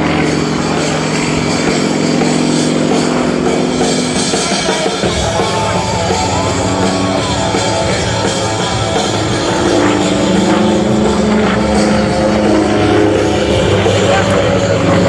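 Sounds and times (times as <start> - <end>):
rock music with drum kit: 0.0 - 15.0.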